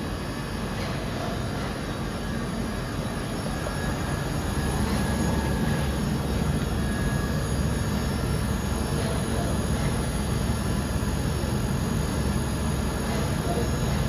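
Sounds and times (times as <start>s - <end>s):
machining centre running: 0.0s - 14.0s.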